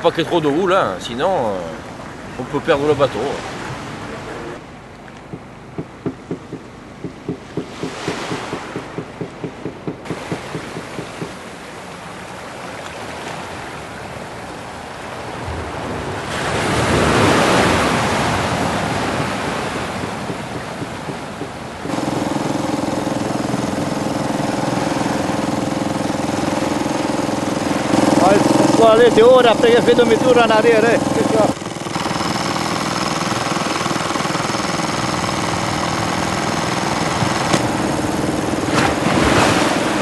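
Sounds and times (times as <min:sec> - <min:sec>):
waves on rocky shore: 0:00.0 - 0:04.8, 0:05.4 - 0:40.0
boat motor: 0:00.0 - 0:40.0.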